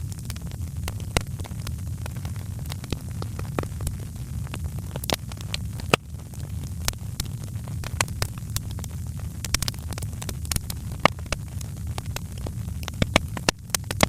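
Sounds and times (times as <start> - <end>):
loud fire cracks: 0.0 - 14.0
wood fire crackling: 0.0 - 14.0.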